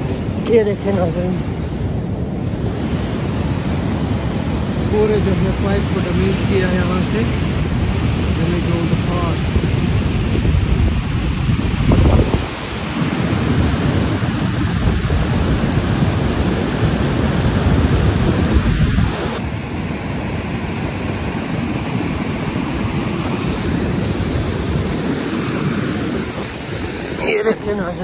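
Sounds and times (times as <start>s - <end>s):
flood torrent roaring: 0.0s - 28.0s.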